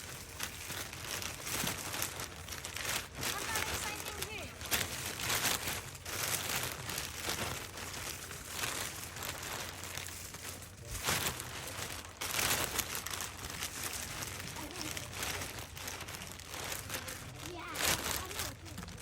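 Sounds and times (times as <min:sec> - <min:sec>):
bag rustling and crinkling: 0:00.0 - 0:19.0.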